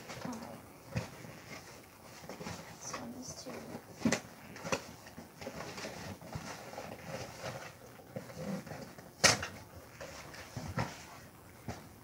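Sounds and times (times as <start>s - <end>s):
paper rustling and crinkling: 0.0s - 11.9s.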